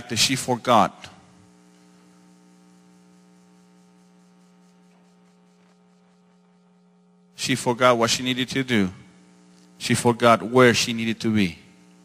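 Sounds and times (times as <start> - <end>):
faint electrical mains hum: 0.0 - 12.0.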